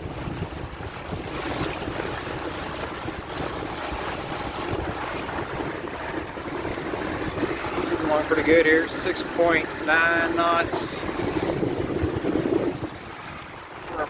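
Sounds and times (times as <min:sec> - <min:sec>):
water rushing along a hull: 0:00.0 - 0:14.0
wind on microphone: 0:00.0 - 0:14.0.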